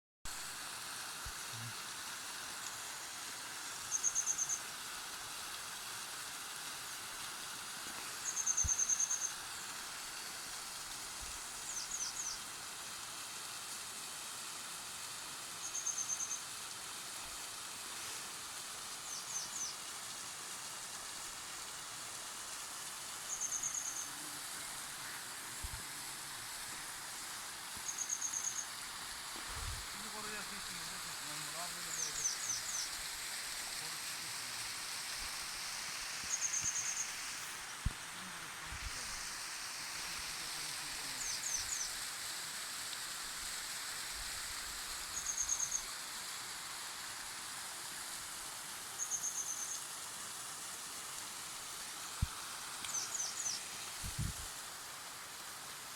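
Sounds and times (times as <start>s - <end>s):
steady hiss: 0.3s - 55.9s.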